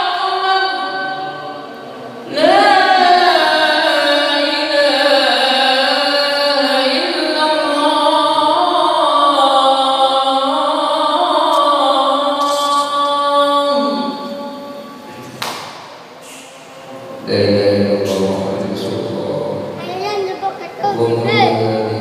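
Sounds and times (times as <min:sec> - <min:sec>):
man singing call to prayer over loudspeakers: 0:00.0 - 0:15.0, 0:17.1 - 0:19.7, 0:20.9 - 0:22.0.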